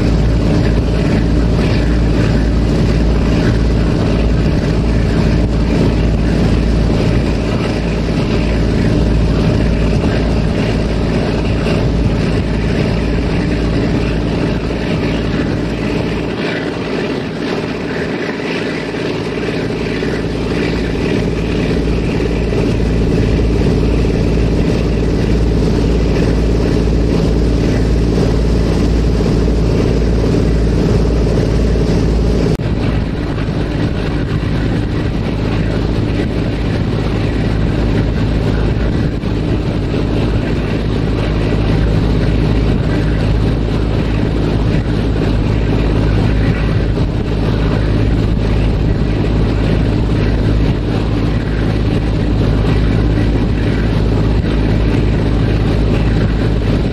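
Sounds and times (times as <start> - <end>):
ferry engines droning: 0.0 - 56.9
rushing noise: 0.0 - 56.9.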